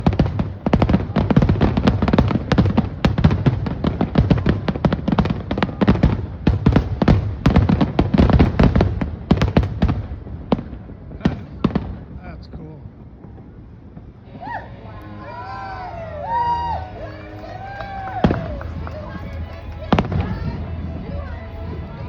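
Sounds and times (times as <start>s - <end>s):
fireworks bangs and crackles: 0.0s - 14.4s, 15.3s - 22.0s.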